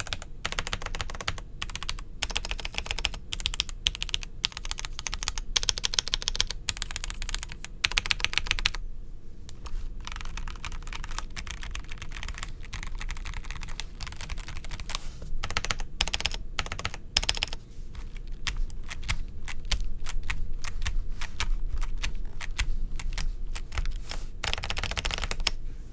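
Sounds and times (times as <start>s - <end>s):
mechanical keyboard typing: 0.0s - 8.8s, 9.5s - 25.6s.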